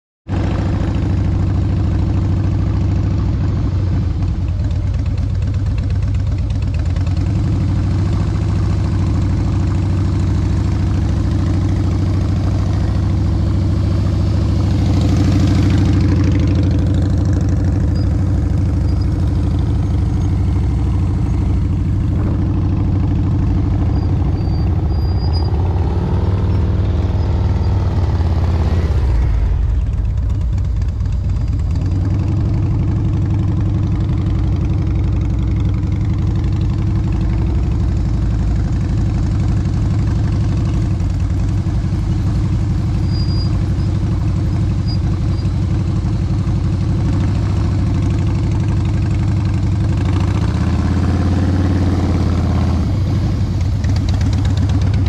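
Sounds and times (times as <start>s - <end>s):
motorcycle engines at low speed: 0.3s - 55.0s.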